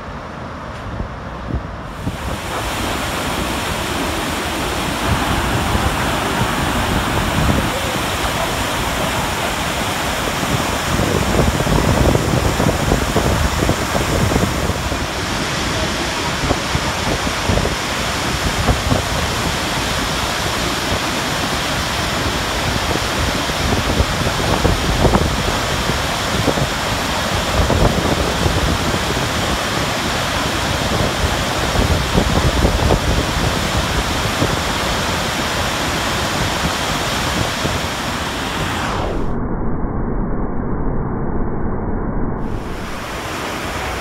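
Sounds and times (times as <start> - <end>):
waterfall roaring: 1.7 - 39.0, 42.4 - 44.0.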